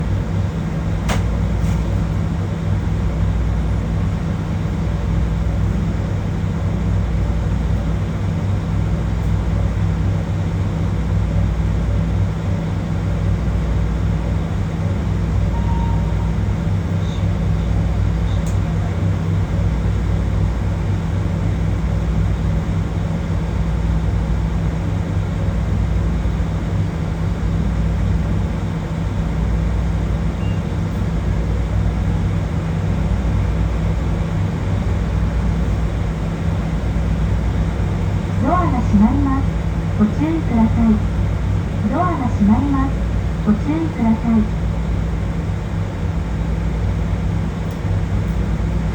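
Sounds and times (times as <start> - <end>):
electric train hum: 0.0 - 48.9.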